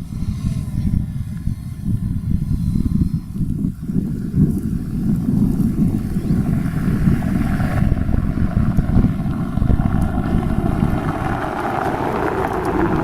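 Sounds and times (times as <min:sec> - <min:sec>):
car engine rumbling through exhaust: 0:00.0 - 0:13.0.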